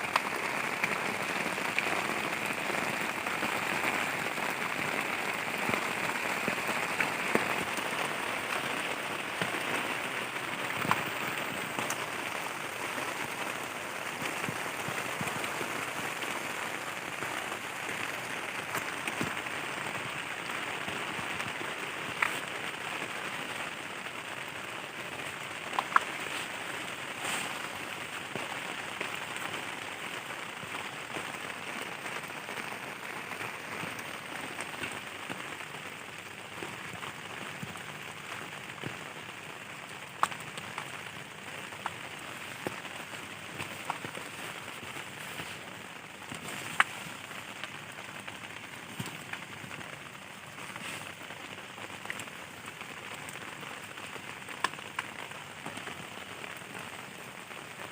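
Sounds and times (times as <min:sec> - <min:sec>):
heavy rain on tent fabric: 0:00.0 - 0:57.9.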